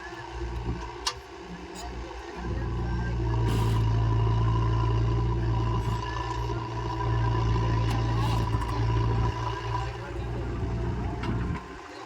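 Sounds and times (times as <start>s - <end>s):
heavy diesel engine running: 0.0s - 11.9s.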